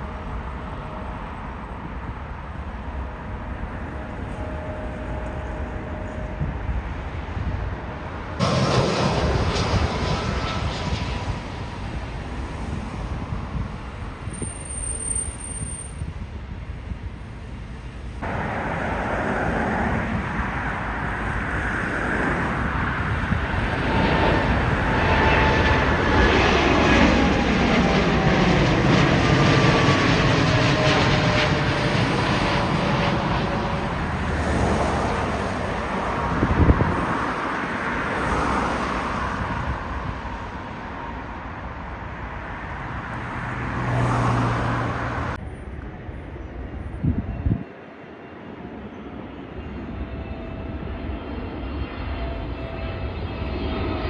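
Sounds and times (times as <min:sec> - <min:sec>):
jet airliner roar: 0:00.0 - 0:54.0.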